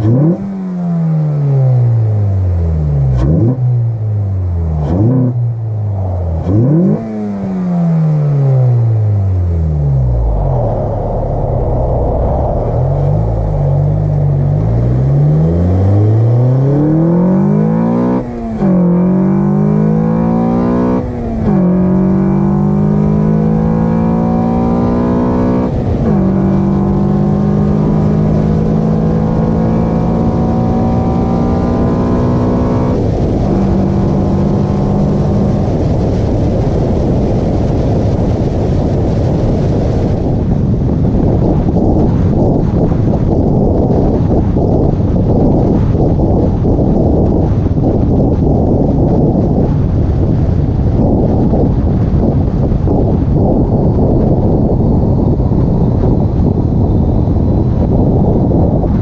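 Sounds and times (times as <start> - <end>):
car engine accelerating: 0.0 - 59.0
road and wind rush: 0.0 - 59.0.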